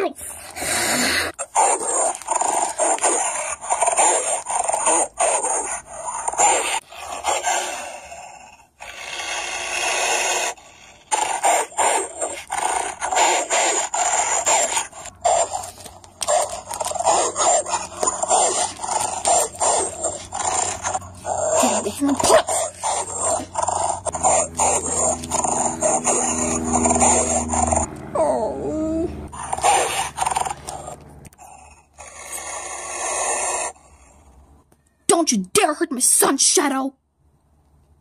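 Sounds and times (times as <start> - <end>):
dog growling snarling and yelping: 0.3 - 34.2.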